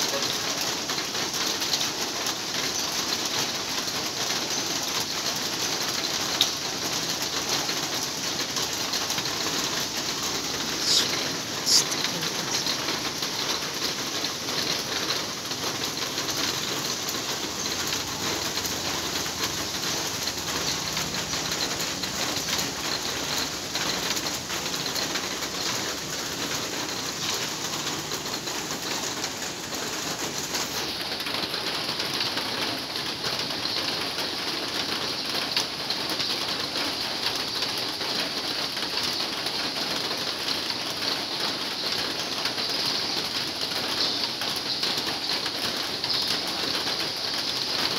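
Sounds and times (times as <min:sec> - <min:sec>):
heavy rain on a metal roof: 0:00.0 - 0:47.9.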